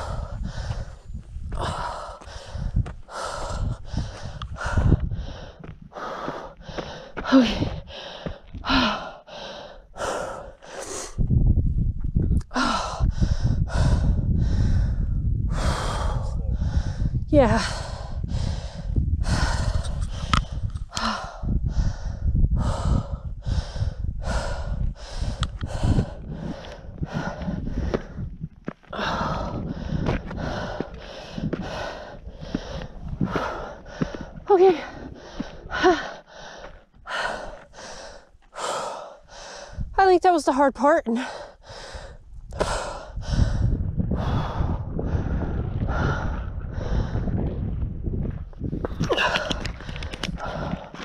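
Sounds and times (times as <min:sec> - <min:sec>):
person panting hard: 0:00.0 - 0:11.2, 0:12.5 - 0:39.9, 0:41.2 - 0:47.5, 0:48.9 - 0:51.0
low rumble: 0:00.0 - 0:40.0, 0:41.5 - 0:51.0.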